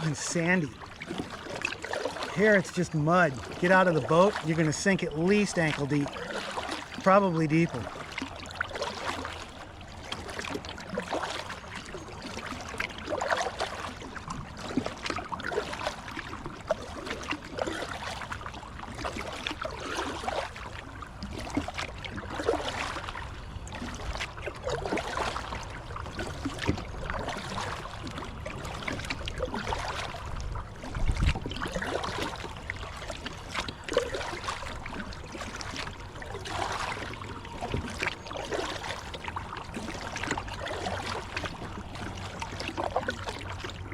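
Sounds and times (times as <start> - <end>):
paddle splashing in water: 0.0 - 43.9
water trickling around hull: 0.0 - 43.9.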